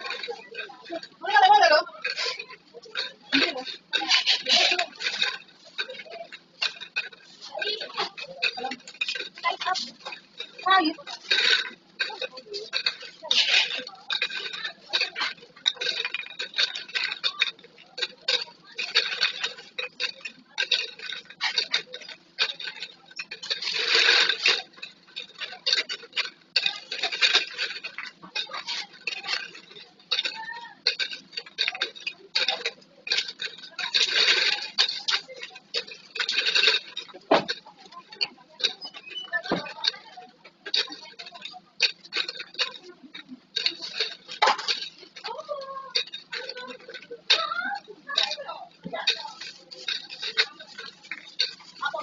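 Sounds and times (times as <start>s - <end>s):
bottles clicking and clattering: 0.0s - 52.0s.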